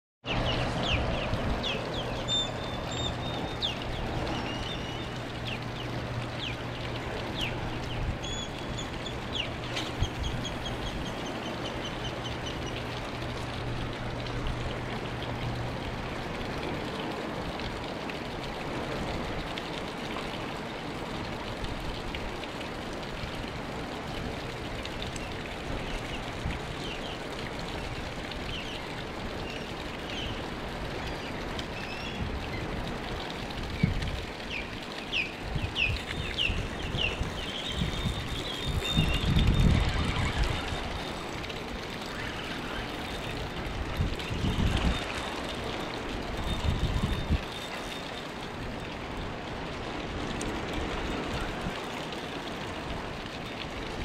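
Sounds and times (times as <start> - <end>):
rushing water at dam: 0.3 - 54.0.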